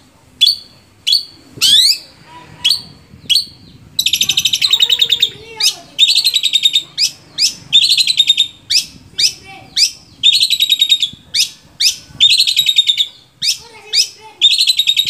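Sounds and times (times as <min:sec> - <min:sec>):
bird singing rattling trills: 0:00.4 - 0:15.0.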